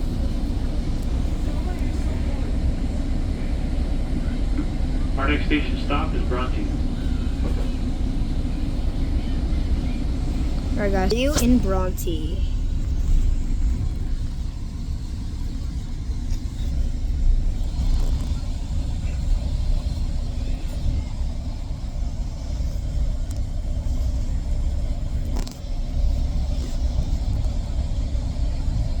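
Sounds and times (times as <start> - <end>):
train rumbling inside coach: 0.0 - 29.0.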